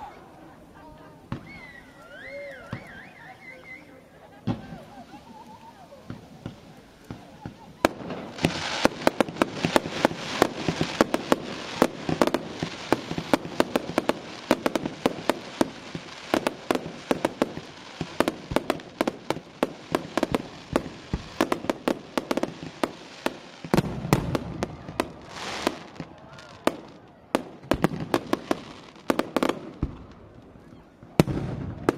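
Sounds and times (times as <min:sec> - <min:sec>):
constant hiss: 0:00.0 - 0:31.9
fireworks bangs and crackles: 0:00.0 - 0:31.9.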